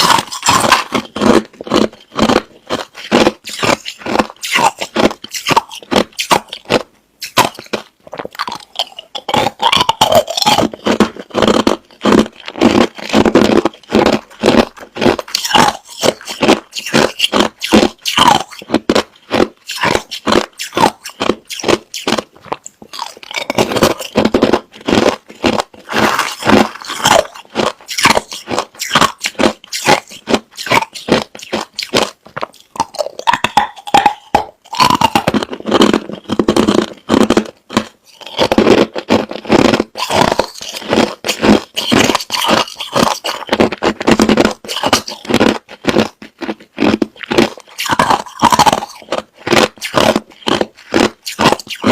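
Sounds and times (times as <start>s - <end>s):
crushed ice being chewed: 0.0s - 51.9s.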